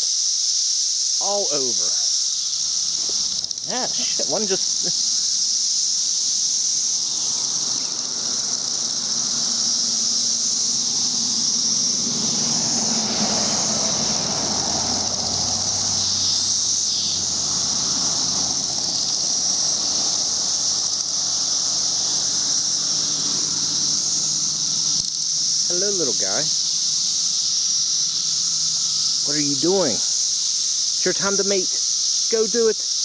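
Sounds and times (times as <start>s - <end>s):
cicadas droning: 0.0s - 33.0s.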